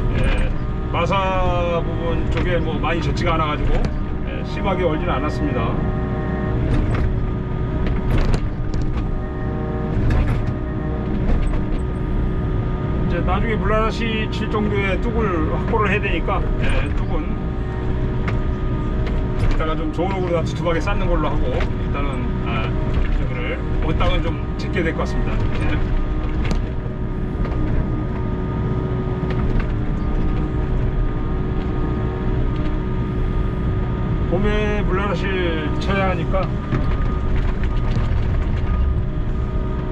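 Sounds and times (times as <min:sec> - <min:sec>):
excavator engine and hydraulics whining: 0:00.0 - 0:39.9.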